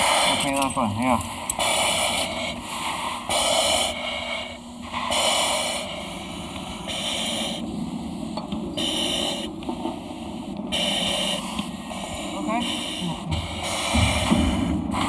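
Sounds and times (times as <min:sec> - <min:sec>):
hissing breaths through face mask: 0:01.6 - 0:15.0.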